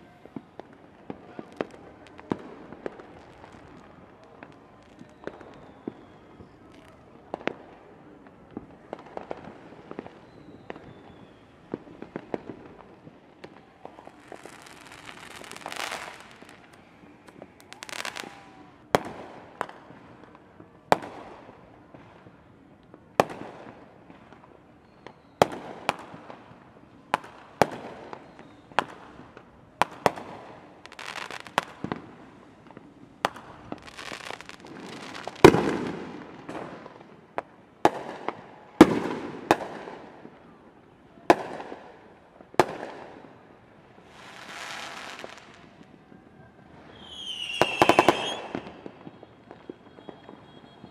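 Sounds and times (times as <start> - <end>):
fireworks banging: 0.0 - 40.4, 46.8 - 50.9
fireworks hissing and crackling: 0.0 - 50.9.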